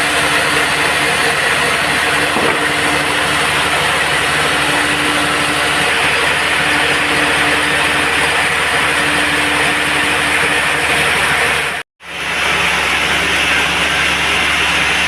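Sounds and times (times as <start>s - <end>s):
band sawmill running: 0.0s - 15.0s.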